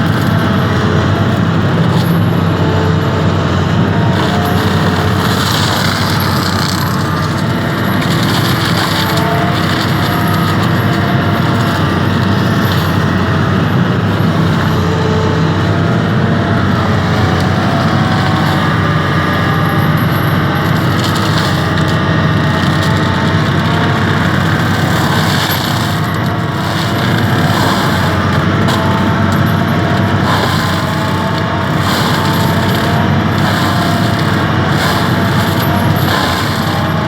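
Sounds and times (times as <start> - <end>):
excavator diesel engine under load: 0.0 - 37.0
forestry mulcher crackling: 0.0 - 37.0.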